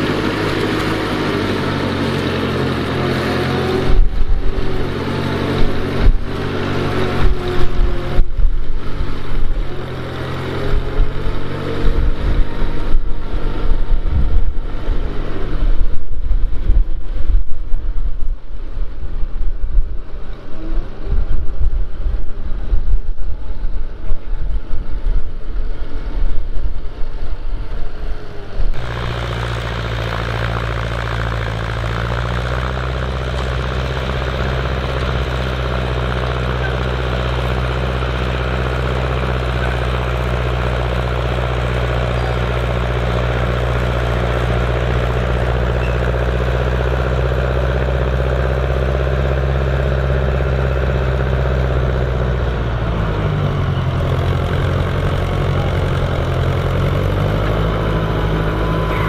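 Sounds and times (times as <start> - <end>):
tractor engine under load: 0.0 - 18.0, 24.3 - 59.0.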